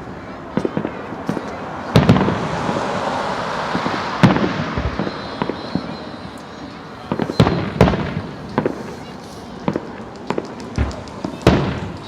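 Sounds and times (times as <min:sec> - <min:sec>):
fireworks crackling: 0:00.0 - 0:12.0
loud firework bangs: 0:00.5 - 0:12.0.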